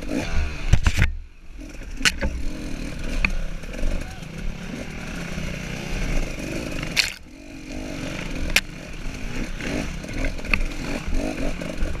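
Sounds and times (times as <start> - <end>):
dirt bike engine revving: 0.0 - 0.8, 1.5 - 12.0.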